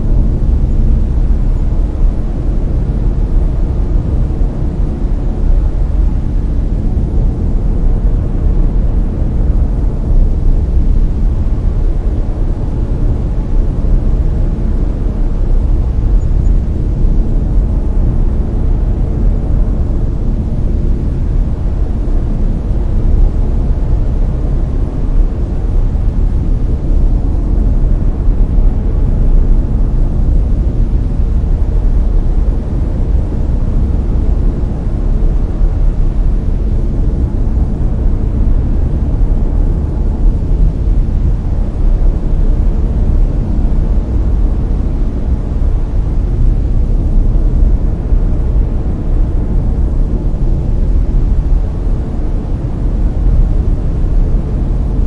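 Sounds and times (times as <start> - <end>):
brown noise: 0.0 - 55.0.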